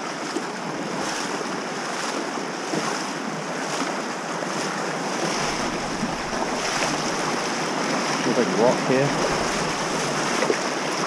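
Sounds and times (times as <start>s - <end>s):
person wading splashing: 0.0s - 11.0s
river rushing over stones: 0.0s - 11.0s.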